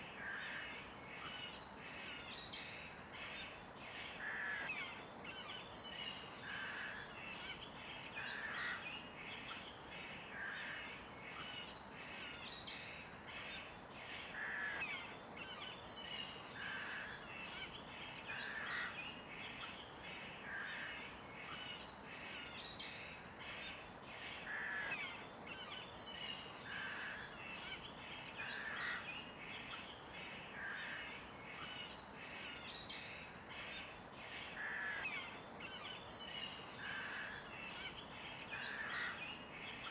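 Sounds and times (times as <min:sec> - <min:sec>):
birds chirping and trilling: 0:00.0 - 0:39.9
faint background hiss: 0:00.0 - 0:39.9.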